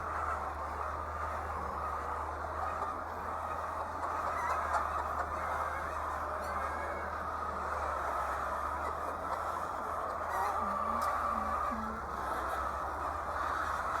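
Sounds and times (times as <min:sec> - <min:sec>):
hens clucking and squawking: 0:00.0 - 0:14.0.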